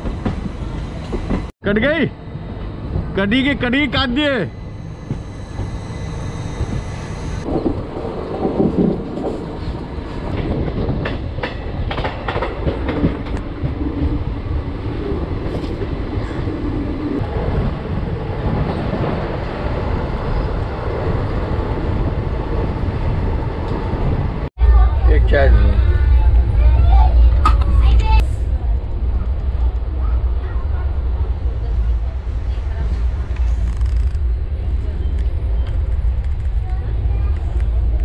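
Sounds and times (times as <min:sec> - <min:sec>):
passenger train rumbling: 0:00.0 - 0:38.0.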